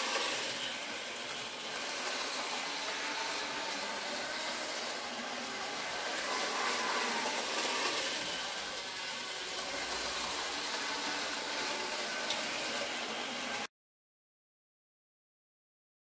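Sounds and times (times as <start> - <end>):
model trains whirring: 0.0 - 13.7.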